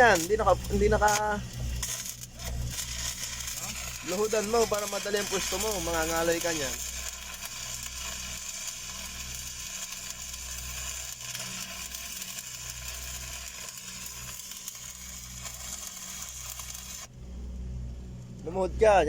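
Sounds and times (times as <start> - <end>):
welding arc crackling: 0.0 - 17.2
low steady hum: 0.0 - 19.0.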